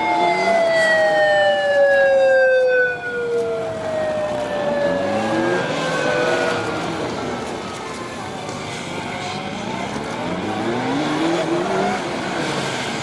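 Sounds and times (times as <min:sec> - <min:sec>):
police motorcycle sirens: 0:00.0 - 0:13.0.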